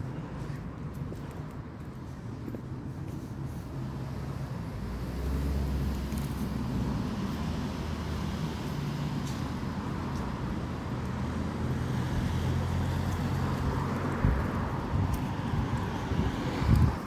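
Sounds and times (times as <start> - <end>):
road noise: 0.0 - 17.0
road traffic rumble: 0.0 - 17.0.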